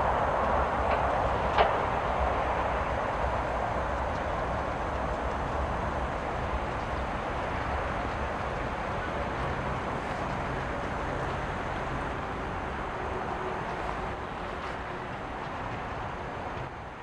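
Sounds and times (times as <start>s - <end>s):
rushing outdoor ambience: 0.0s - 17.0s.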